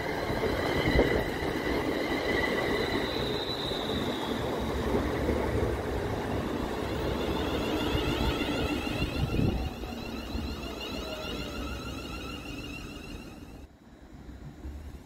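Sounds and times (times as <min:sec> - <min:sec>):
high train whine: 0:00.0 - 0:15.0
train wheels rumbling on rails: 0:00.0 - 0:15.0.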